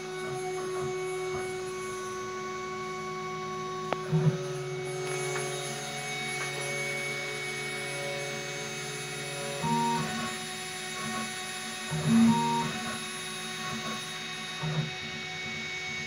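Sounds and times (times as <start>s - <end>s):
cnc router motors humming: 0.0s - 16.0s.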